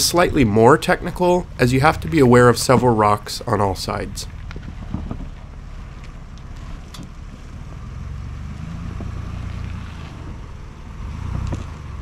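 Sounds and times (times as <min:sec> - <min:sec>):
suv engine running: 0:00.0 - 0:12.0.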